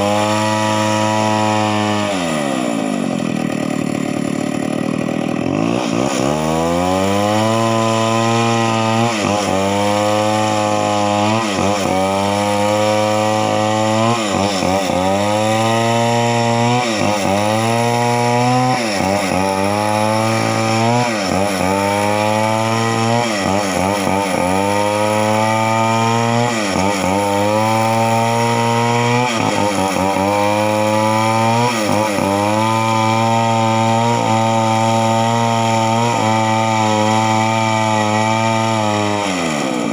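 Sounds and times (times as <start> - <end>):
chainsaw revving and bogging: 0.0 - 39.9.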